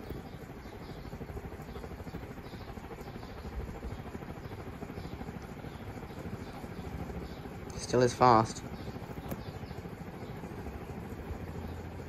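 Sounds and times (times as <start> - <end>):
ceiling fan whirring: 0.0 - 12.0.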